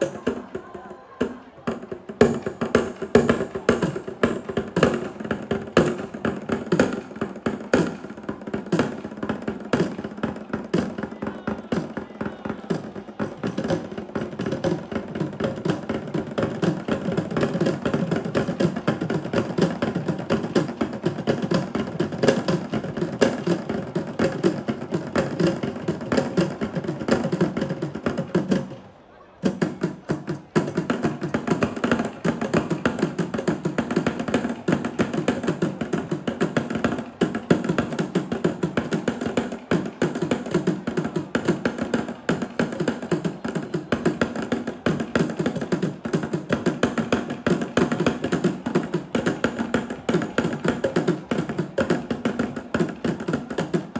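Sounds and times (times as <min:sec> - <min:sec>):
barrel drum: 0:00.0 - 0:53.9
small stick-beaten drums: 0:00.0 - 0:53.9.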